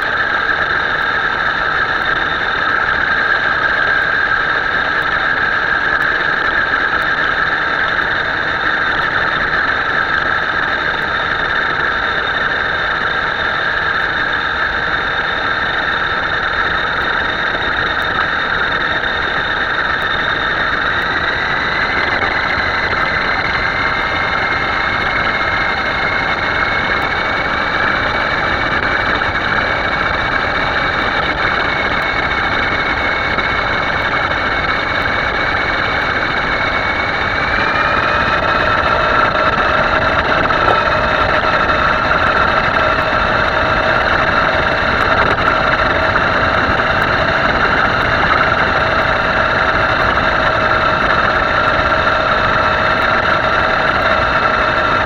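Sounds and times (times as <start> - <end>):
motor running with a whine: 0.0 - 55.0.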